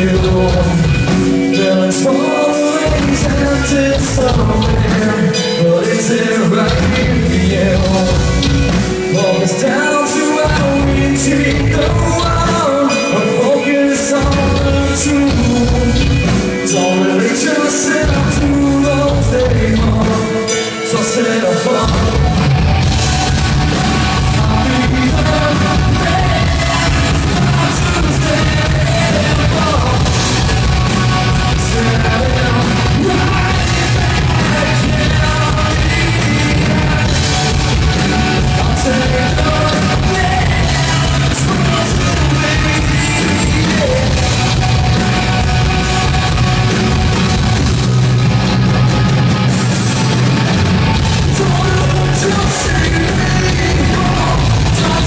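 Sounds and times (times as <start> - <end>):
sung and shouted vocals: 0.0 - 46.4, 50.8 - 55.0
heavy rock band playing: 0.0 - 55.0.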